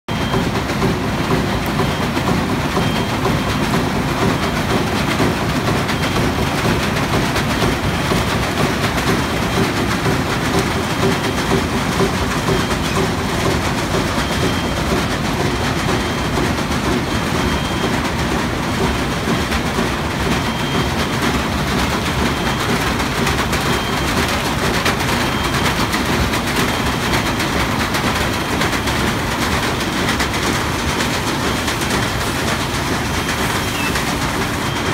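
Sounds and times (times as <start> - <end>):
vibrating machine and conveyors: 0.1 - 34.9.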